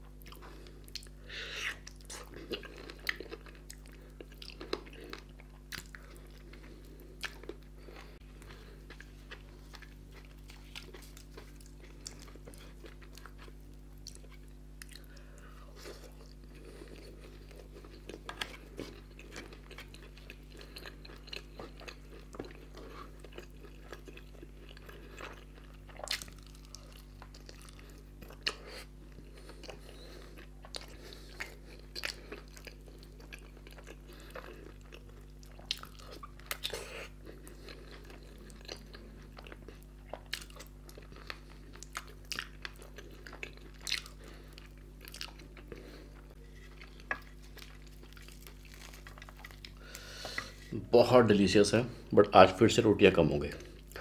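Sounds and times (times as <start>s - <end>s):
person chewing: 0.0s - 51.2s, 53.4s - 54.0s
faint low hum: 0.0s - 54.0s.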